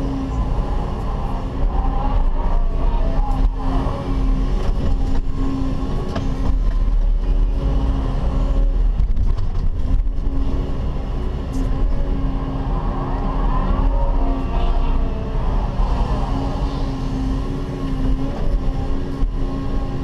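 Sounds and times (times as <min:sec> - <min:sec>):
excavator engine drone: 0:00.0 - 0:20.0.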